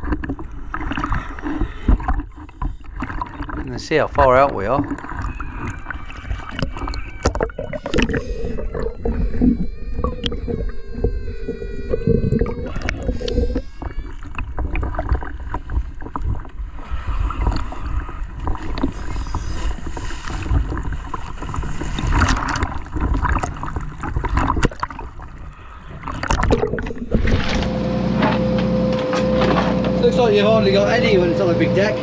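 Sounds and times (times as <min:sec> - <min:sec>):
sea water splashing and sloshing: 0:00.0 - 0:32.0.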